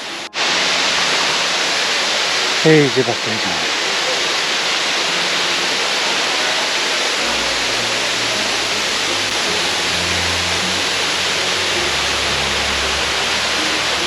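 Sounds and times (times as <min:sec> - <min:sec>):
waterfall rushing and splashing: 0:00.0 - 0:14.0.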